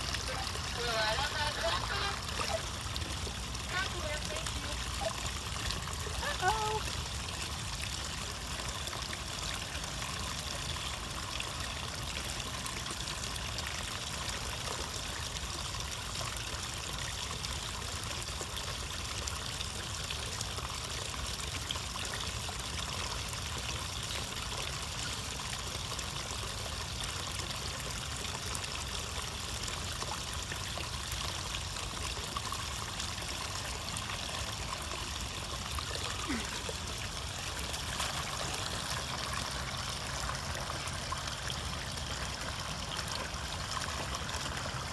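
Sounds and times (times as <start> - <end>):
water trickling into pond: 0.0 - 44.9.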